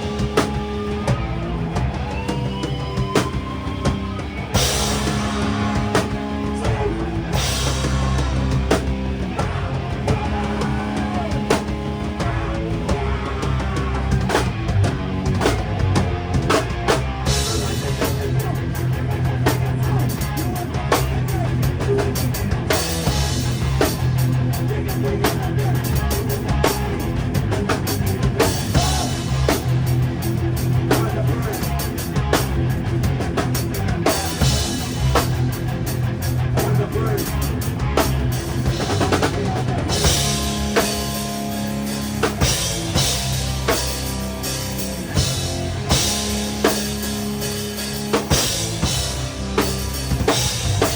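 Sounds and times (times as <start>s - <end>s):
loud drums and cymbals: 0.0s - 50.9s
rock band playing live: 0.0s - 50.9s.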